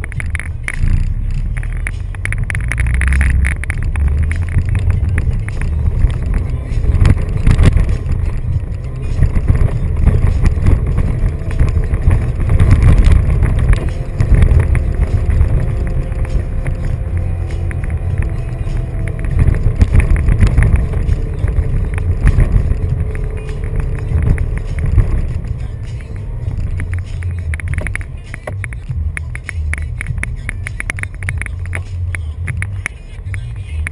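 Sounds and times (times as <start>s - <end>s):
knocks and rattles: 0.0s - 32.8s
truck engine rumbling under load: 0.0s - 33.9s.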